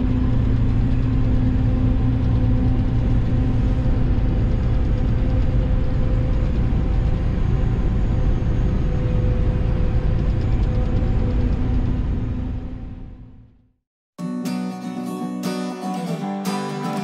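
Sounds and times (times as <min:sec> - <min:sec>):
heavy engine drone: 0:00.0 - 0:13.6.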